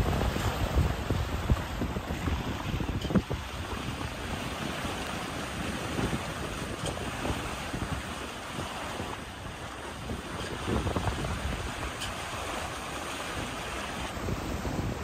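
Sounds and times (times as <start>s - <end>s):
waves against boat hull: 0.0s - 15.0s
wind buffeting microphone: 0.0s - 15.0s.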